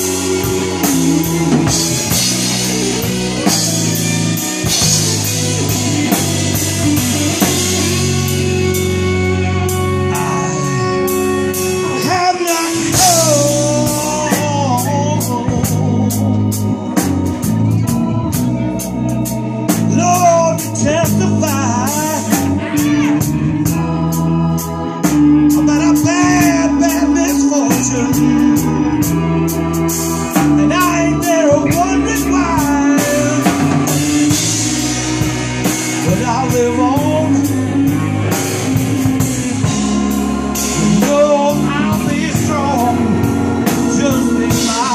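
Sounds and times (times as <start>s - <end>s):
live blues band playing: 0.0s - 44.9s
man singing lead vocal: 6.9s - 44.9s.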